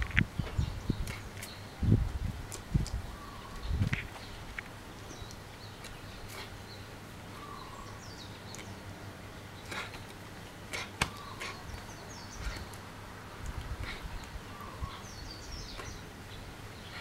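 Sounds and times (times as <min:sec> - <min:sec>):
birds chirping: 0:00.0 - 0:02.0, 0:02.8 - 0:17.0.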